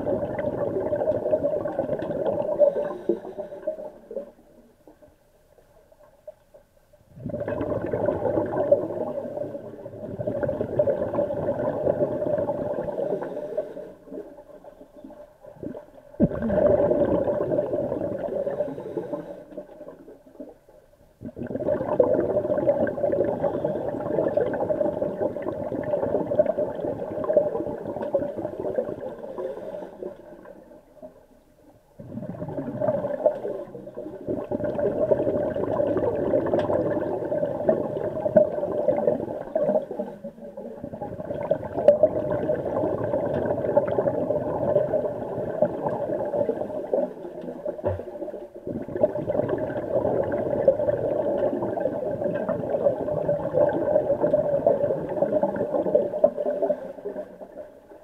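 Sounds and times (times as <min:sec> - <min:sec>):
underwater scuba bubbles gurgling: 0:00.0 - 0:58.0.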